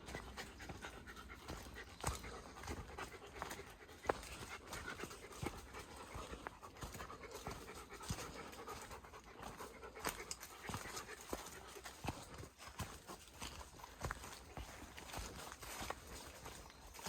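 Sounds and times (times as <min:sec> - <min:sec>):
footsteps on ground: 0:00.0 - 0:17.0
heavy panting breath: 0:00.0 - 0:17.0.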